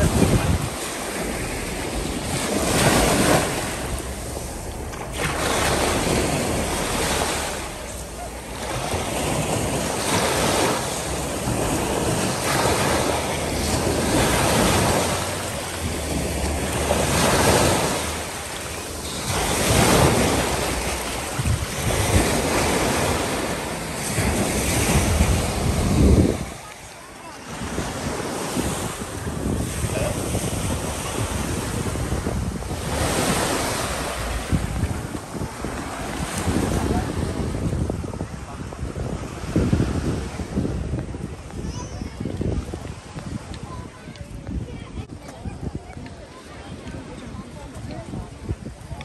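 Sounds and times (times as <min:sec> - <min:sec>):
sea waves washing in: 0:00.0 - 0:49.0
wind buffeting microphone: 0:00.0 - 0:49.0.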